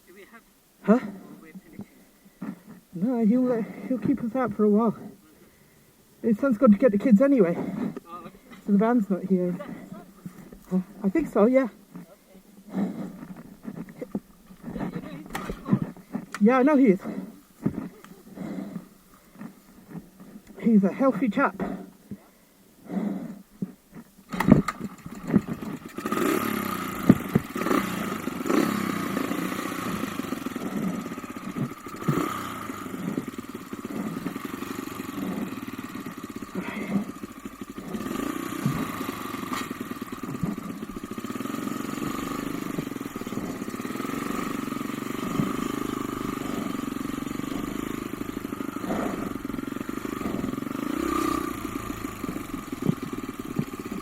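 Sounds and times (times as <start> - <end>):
off-road motorcycle engine revving: 0.8 - 5.3, 6.2 - 22.0, 22.8 - 54.0.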